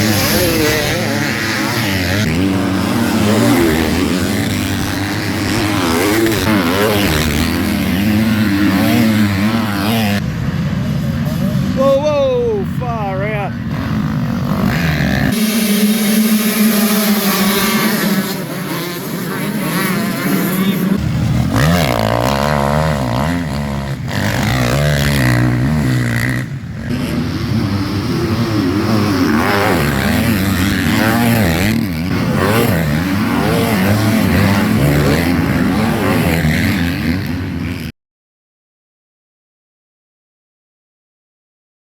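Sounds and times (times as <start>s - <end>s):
motocross bikes revving: 0.0s - 37.9s.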